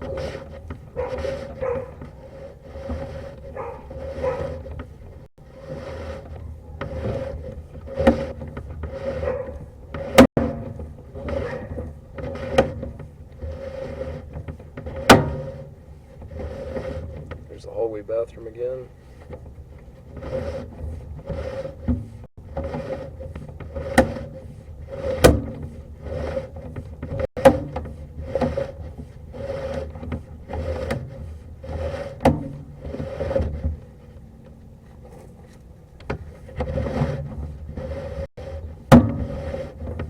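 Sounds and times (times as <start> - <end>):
cable scraping through pipe: 0.0 - 40.0.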